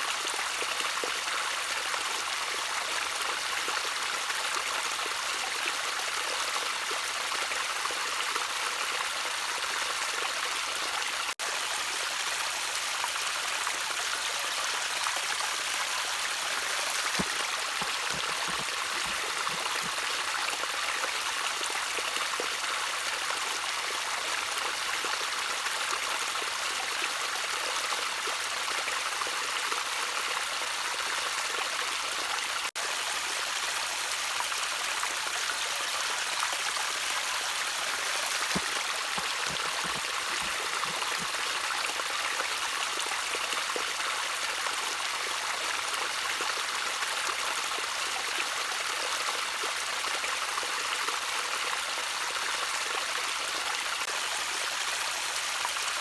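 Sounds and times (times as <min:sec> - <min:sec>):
trickling stream water: 0:00.0 - 0:56.0.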